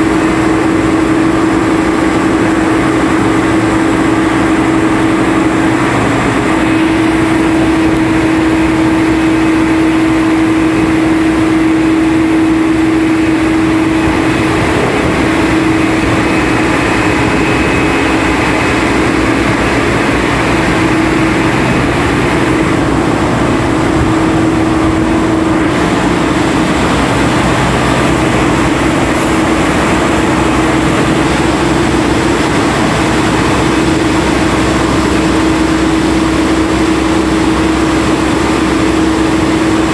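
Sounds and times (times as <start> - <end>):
dredge engine machinery humming: 0.0 - 39.9.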